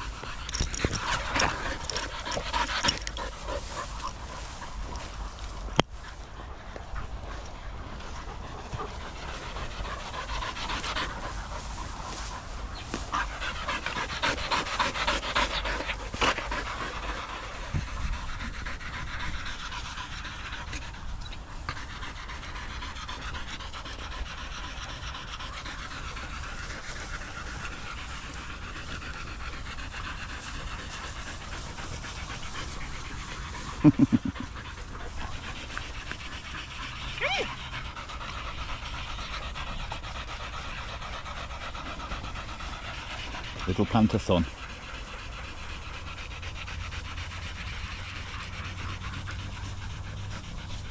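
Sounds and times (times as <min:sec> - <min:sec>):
dogs panting: 0:00.0 - 0:50.9.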